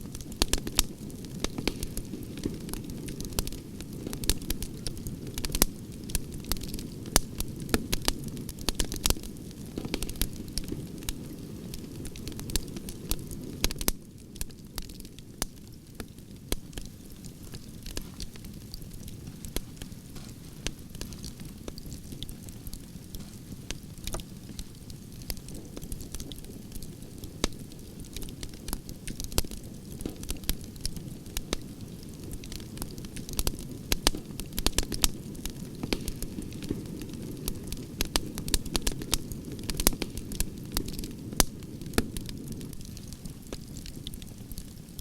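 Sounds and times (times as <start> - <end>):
campfire burning with crackles: 0.0 - 45.0.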